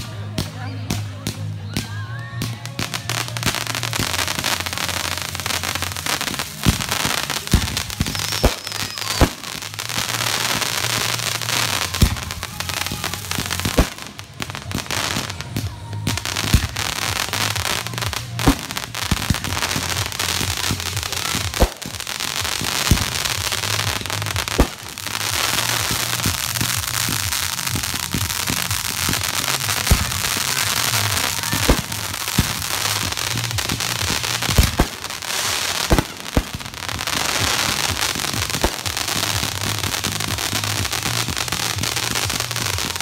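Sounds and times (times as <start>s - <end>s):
fireworks crackling: 0.0s - 43.0s.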